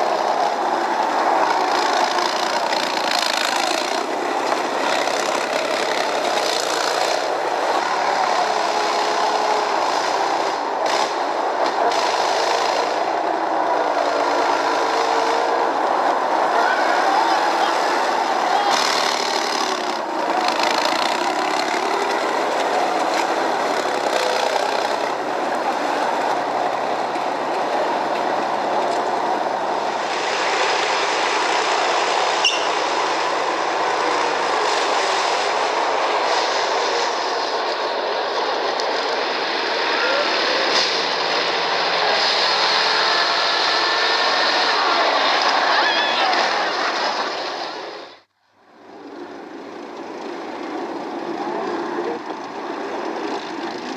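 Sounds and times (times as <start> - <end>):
diesel engine under load: 0.0 - 53.9
vehicle tracks running: 0.0 - 53.9.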